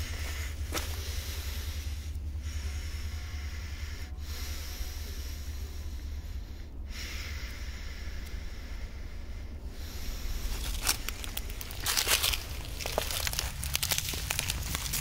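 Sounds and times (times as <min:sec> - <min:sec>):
low rumble: 0:00.0 - 0:15.0
breathy hiss: 0:00.1 - 0:15.0.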